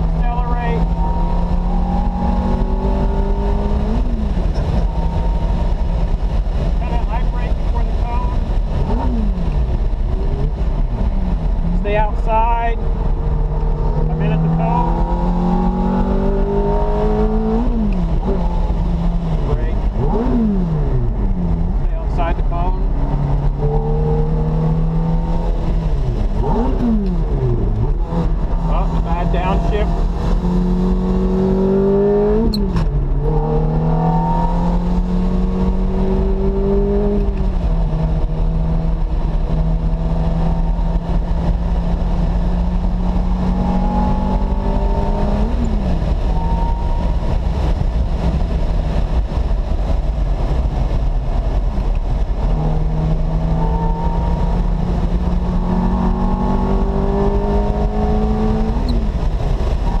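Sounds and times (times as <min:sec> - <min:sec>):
car engine revving through gears: 0:00.0 - 1:00.0
wind and tyre noise: 0:00.0 - 1:00.0.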